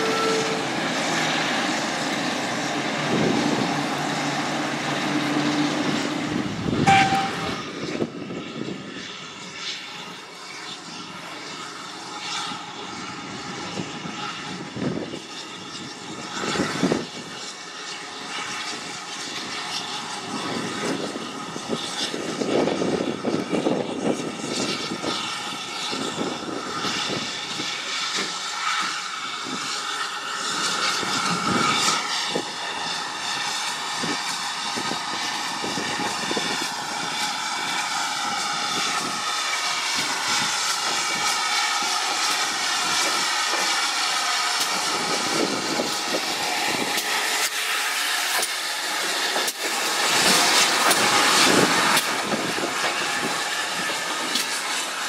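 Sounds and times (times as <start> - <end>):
steam engine chuffing: 10.6 - 55.0.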